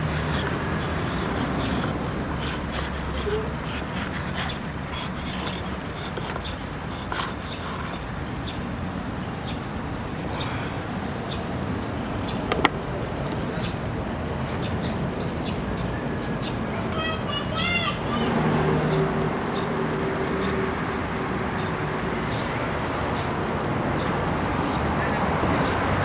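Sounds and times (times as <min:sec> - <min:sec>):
street background noise: 0:00.0 - 0:26.0.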